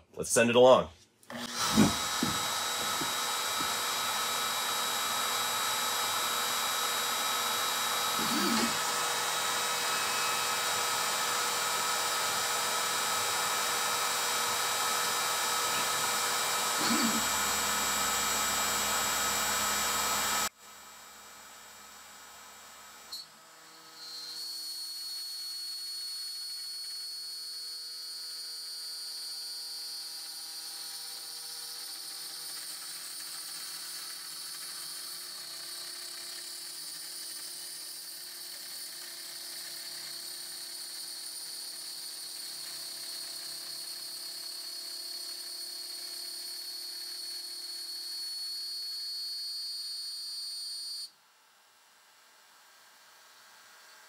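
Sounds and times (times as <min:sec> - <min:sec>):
router whining: 0:01.2 - 0:49.6.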